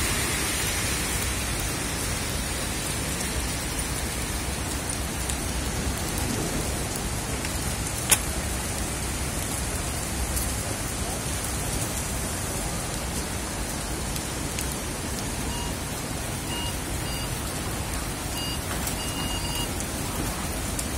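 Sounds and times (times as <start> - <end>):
heavy rain on street: 0.0 - 20.9.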